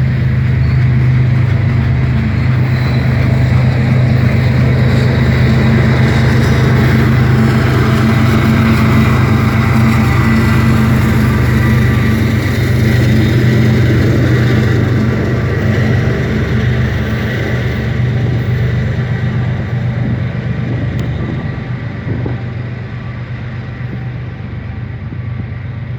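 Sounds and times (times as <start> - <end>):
locomotive engine drone: 0.0 - 25.9.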